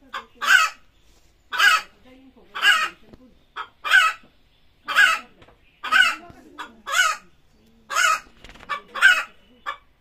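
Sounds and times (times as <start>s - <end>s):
hen squawking: 0.0s - 0.9s, 1.5s - 10.0s.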